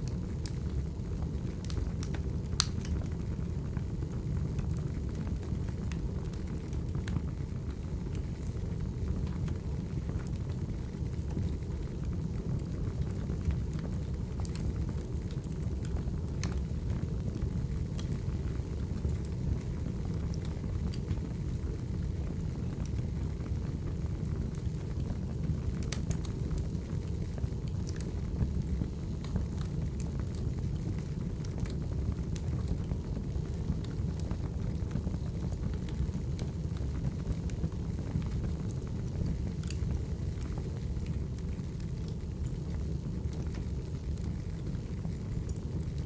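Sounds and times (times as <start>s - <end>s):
sharp fire snaps: 0.0s - 3.2s, 4.5s - 23.9s, 24.5s - 46.0s
fire crackles and pops: 0.0s - 46.0s
fire flames rumbling: 0.0s - 46.0s.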